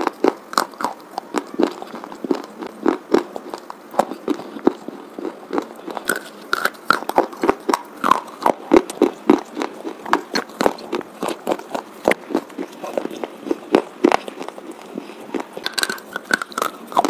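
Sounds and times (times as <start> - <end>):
slate pencils crunching when chewed: 0.0 - 17.0.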